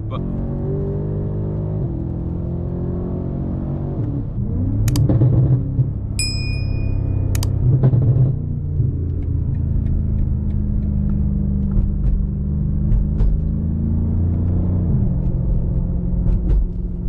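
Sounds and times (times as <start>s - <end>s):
car engine cruising: 0.0s - 17.0s.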